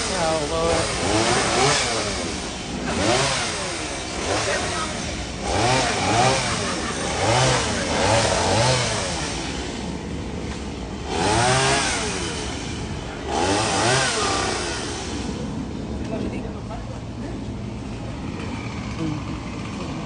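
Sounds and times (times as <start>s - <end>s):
chainsaw revving: 0.0s - 15.8s, 17.7s - 20.0s.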